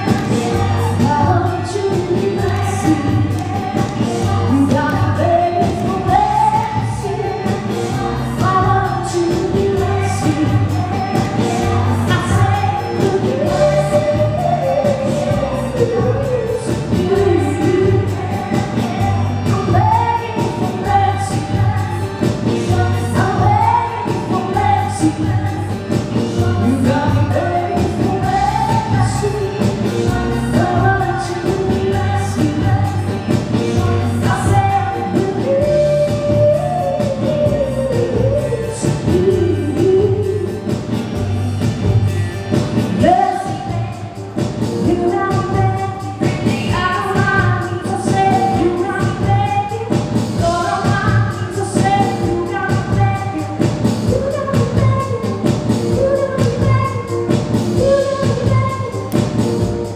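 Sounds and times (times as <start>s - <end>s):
backing music with bass beat: 0.0s - 59.9s
woman singing pop song: 0.0s - 59.9s.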